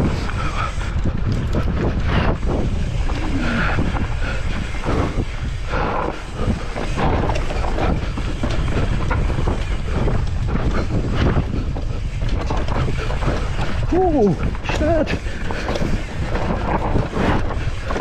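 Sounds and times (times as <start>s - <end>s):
bike clicks and rattles: 0.0s - 18.0s
low rumble of bike tyres: 0.0s - 18.0s
wind buffeting microphone: 0.0s - 18.0s.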